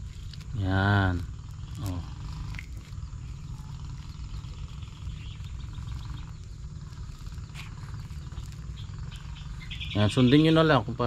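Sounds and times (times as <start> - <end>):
faint insect chirping: 0.0 - 11.0
low steady rumble: 0.0 - 11.0.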